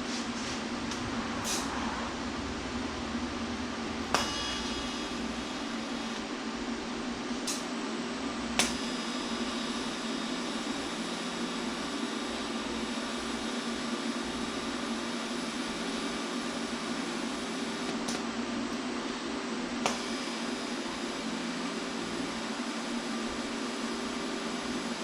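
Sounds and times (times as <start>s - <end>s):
machinery whirring hum: 0.0s - 25.0s.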